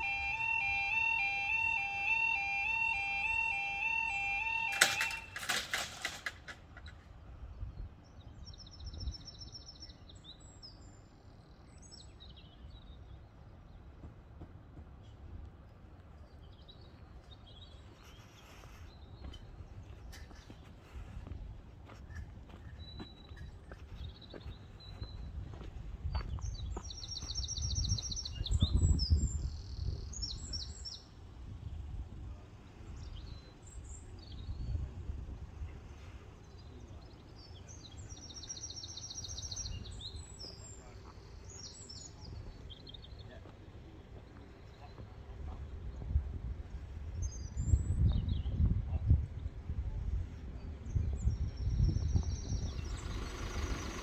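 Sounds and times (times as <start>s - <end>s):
birds chirping: 0.0s - 31.8s, 32.4s - 46.2s, 50.3s - 54.0s
songbird singing: 0.0s - 54.0s.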